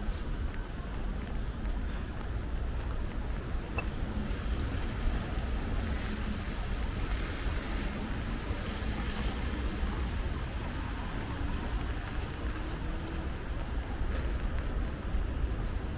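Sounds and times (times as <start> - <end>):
rain falling on street: 2.2 - 15.9.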